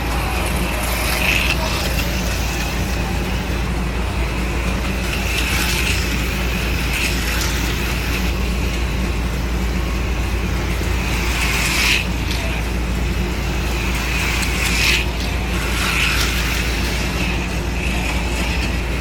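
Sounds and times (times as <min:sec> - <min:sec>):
low electrical hum: 0:00.0 - 0:19.0
slot car motors whirring: 0:00.0 - 0:19.0.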